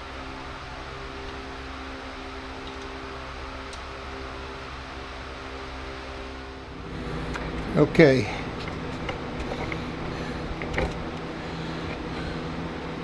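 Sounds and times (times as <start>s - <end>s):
electric fans running: 0.0s - 13.0s.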